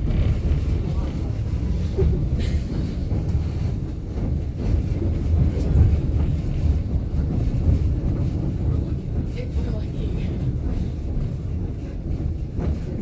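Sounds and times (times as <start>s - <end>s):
train cars rumbling on track: 0.0s - 13.0s.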